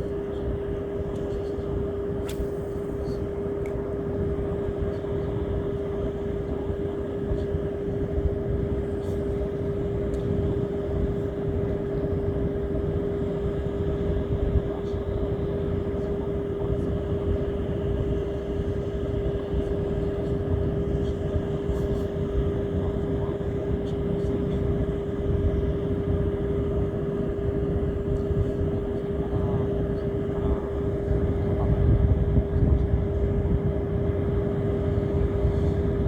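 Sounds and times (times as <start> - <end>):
motor hum: 0.0 - 36.0.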